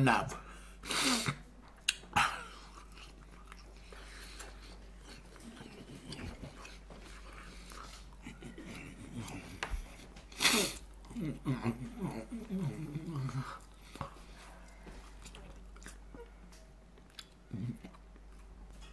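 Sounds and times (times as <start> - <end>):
man chewing crunchy food: 1.6 - 18.9.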